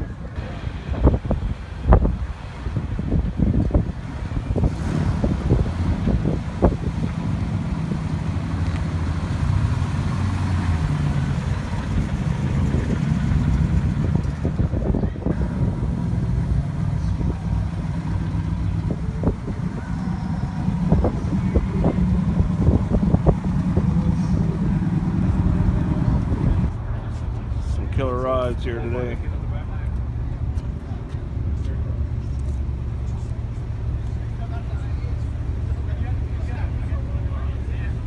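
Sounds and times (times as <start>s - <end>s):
car engine running: 1.0s - 38.0s.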